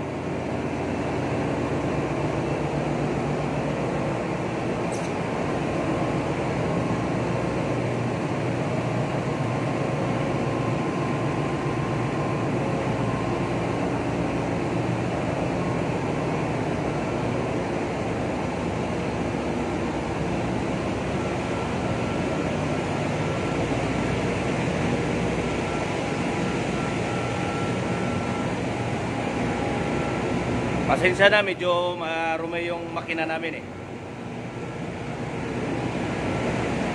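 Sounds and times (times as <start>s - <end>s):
engine room machinery roar: 0.0s - 36.9s.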